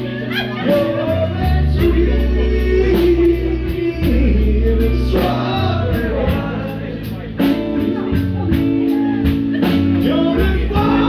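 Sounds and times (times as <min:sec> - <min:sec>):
held bass notes: 0:00.0 - 0:11.0
person singing: 0:00.0 - 0:11.0.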